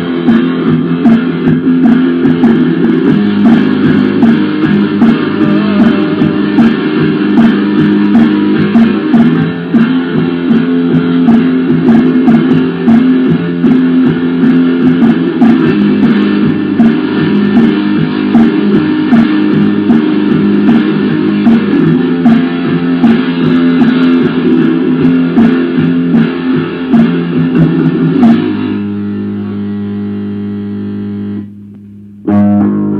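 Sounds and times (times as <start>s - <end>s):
black metal music: 0.0s - 32.9s.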